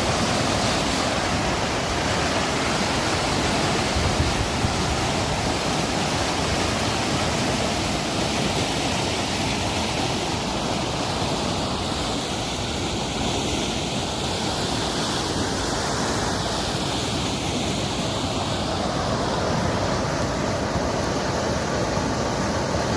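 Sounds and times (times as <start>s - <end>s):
flowing water rushing: 0.0s - 22.9s.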